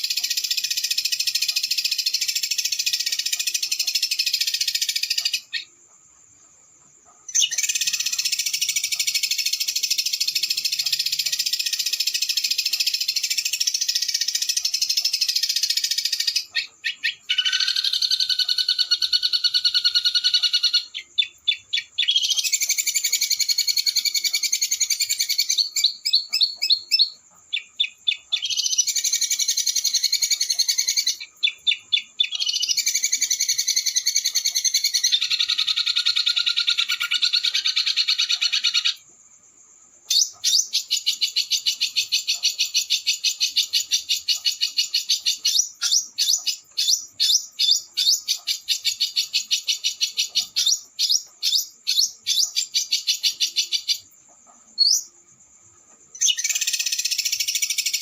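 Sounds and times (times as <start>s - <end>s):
songbird trilling: 7.2s - 39.0s, 40.1s - 54.2s, 54.8s - 55.2s, 56.1s - 58.0s.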